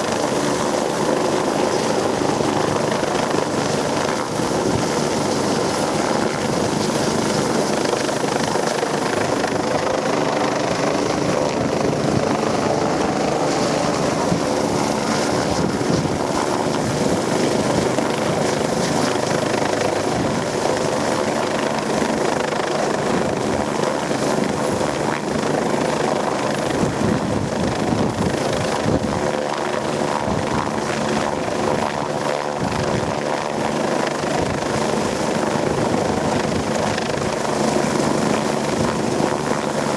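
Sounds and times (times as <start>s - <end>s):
helicopter rotors and engine: 0.0s - 39.9s.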